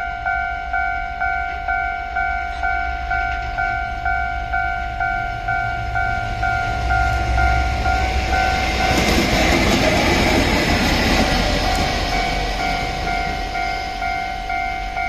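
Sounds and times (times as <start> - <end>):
freight train wheel and rail noise: 0.0 - 15.0.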